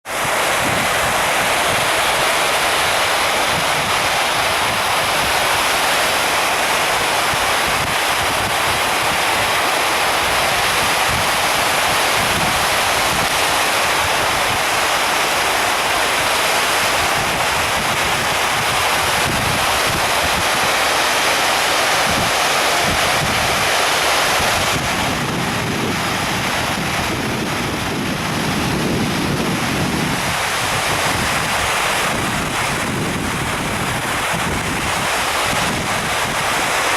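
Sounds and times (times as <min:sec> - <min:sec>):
fountain water splashing: 0:00.0 - 0:36.9
wind buffeting microphone: 0:00.1 - 0:14.9, 0:16.2 - 0:36.9.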